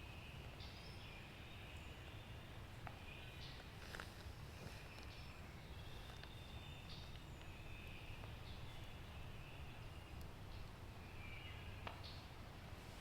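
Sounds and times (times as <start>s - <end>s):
faint songbird calls: 0.0s - 12.4s
low wind rumble: 0.0s - 13.0s.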